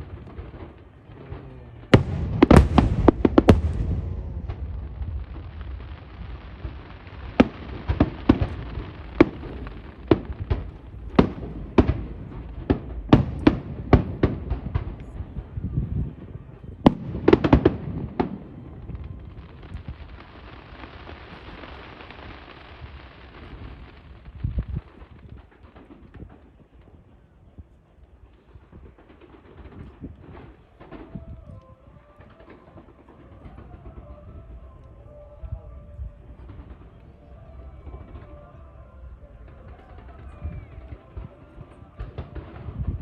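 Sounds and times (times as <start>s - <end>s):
hissing crackle: 0.0s - 43.0s.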